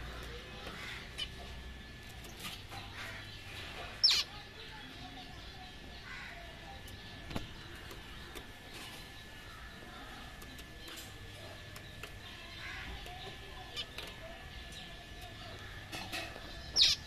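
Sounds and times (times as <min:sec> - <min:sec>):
finches chirping: 0:00.1 - 0:17.0.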